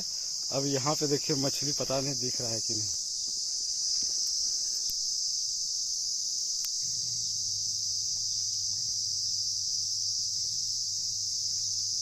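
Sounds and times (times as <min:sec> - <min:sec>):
insects chorus shrill drone: 0:00.0 - 0:12.0.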